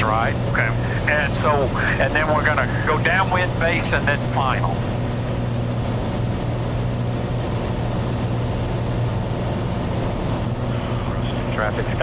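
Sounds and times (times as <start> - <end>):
air noise: 0.0 - 12.0
light aircraft engine drone: 0.0 - 12.0.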